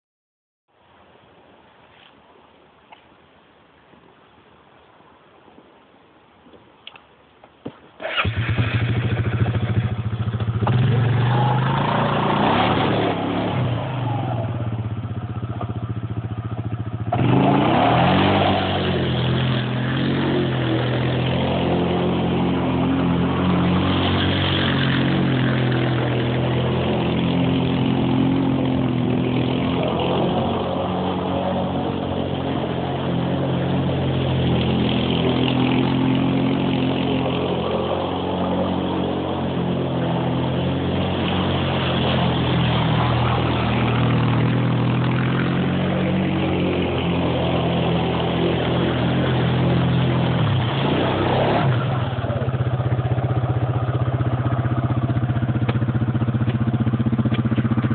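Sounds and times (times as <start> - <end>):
quad bike engine revving: 8.0 - 57.9.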